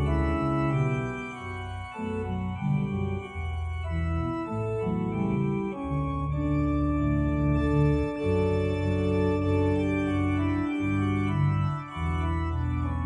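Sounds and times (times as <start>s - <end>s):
organ playing chords: 0.0s - 13.0s.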